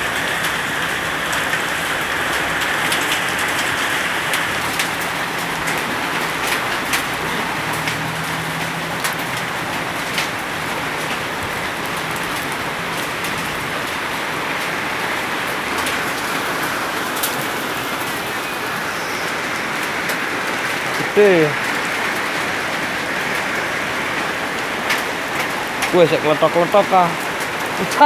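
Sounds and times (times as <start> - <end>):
hailstones ticking: 0.0 - 28.0
rain hissing: 0.0 - 28.0.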